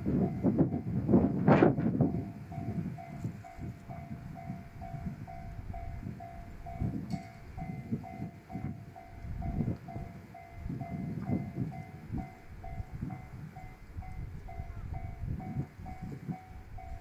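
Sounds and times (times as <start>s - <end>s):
level crossing warning bell: 0.0s - 17.0s
railcar rumbling past: 0.0s - 17.0s.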